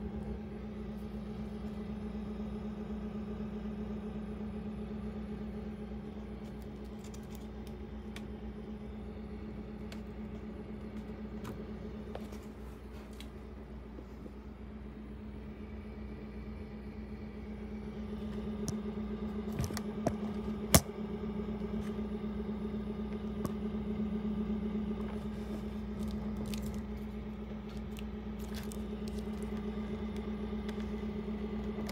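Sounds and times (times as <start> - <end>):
steady low machine hum: 0.0 - 31.9.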